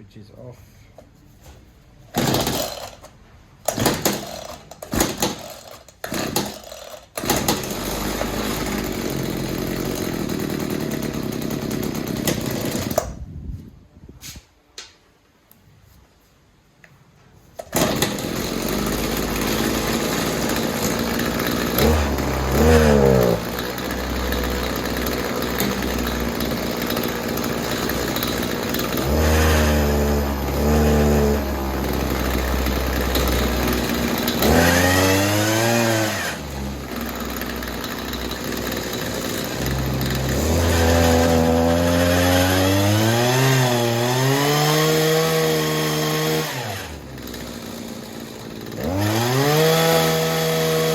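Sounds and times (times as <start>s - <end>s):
hedge trimmer engine revving: 2.1s - 13.2s, 17.6s - 50.9s.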